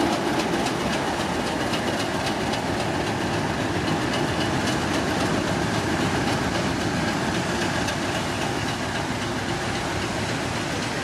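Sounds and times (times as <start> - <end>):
diesel locomotive running: 0.0 - 11.0
wheels clicking over rails: 0.0 - 11.0.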